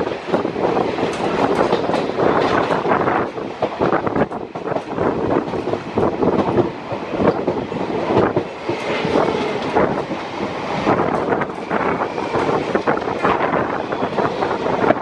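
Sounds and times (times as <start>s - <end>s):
train wheels clattering over track: 0.0s - 15.0s.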